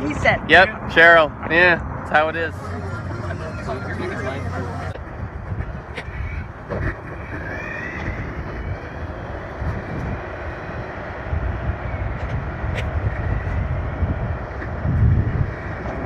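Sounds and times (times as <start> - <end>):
board wheels rumbling on pavement: 0.0 - 16.0
wind buffeting microphone: 0.0 - 16.0.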